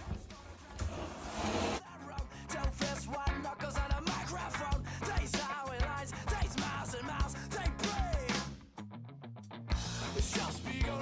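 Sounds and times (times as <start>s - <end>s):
rock music with guitar and drums: 1.8s - 11.0s.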